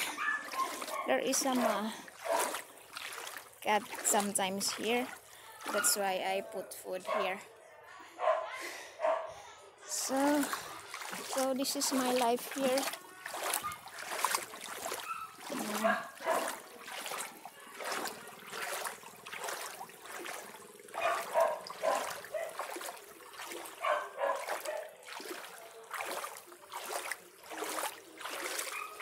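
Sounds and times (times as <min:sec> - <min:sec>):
wading through water splashing: 0:00.0 - 0:07.4, 0:09.9 - 0:29.0.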